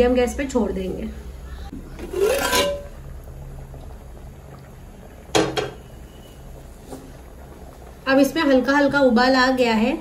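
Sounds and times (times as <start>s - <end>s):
pot simmering: 0.2s - 10.0s.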